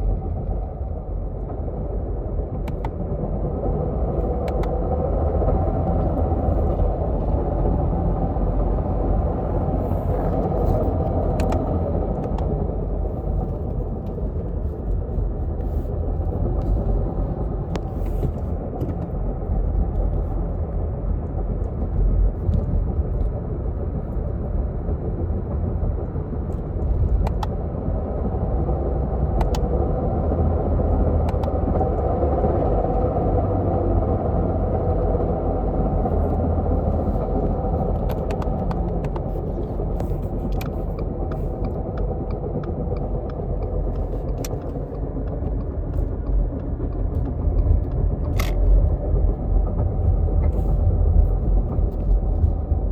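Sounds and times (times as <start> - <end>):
car transmission grinding and whine: 0.0 - 52.9.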